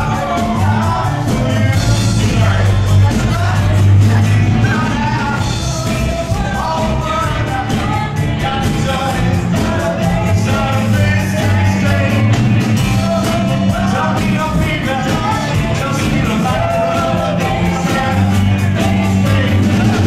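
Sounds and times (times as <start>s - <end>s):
bass line: 0.0s - 20.0s
drum beat: 0.0s - 20.0s
person singing: 0.0s - 20.0s.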